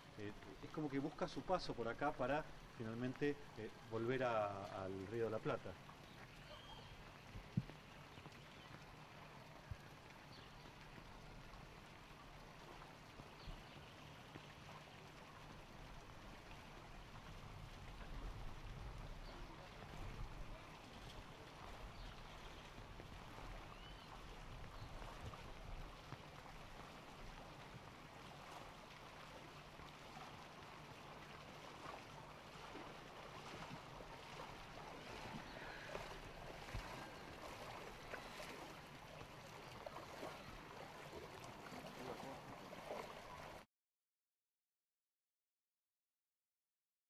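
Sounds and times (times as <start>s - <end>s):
floodwater running and lapping: 0.0s - 43.6s.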